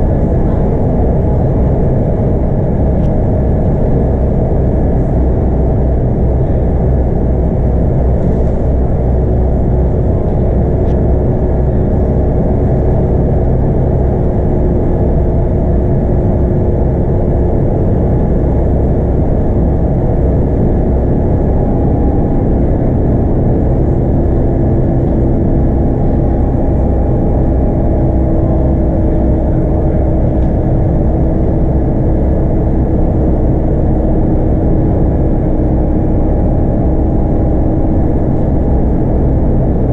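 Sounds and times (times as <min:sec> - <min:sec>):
bus diesel engine drone: 0:00.0 - 0:39.9
faint whine shifting in pitch: 0:00.0 - 0:39.9.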